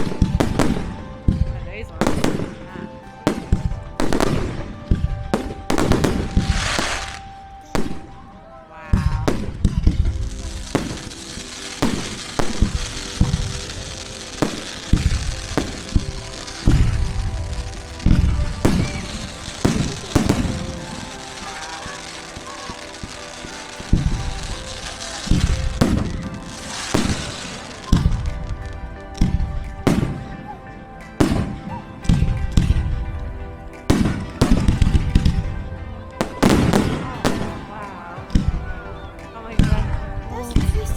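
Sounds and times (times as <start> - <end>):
fireworks bangs: 0.0 - 40.9
fireworks crackling: 0.0 - 40.9
music: 0.0 - 40.9.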